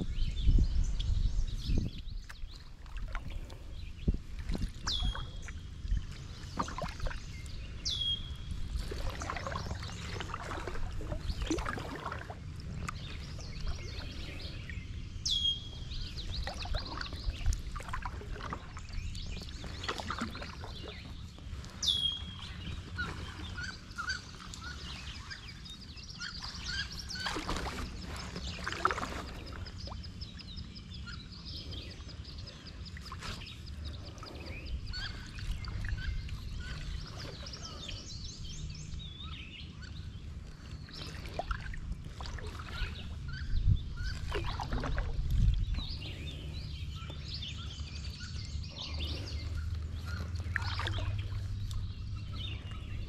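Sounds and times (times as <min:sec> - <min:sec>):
steady low rumble: 0:00.0 - 0:53.0
paddle strokes in water: 0:00.1 - 0:53.0.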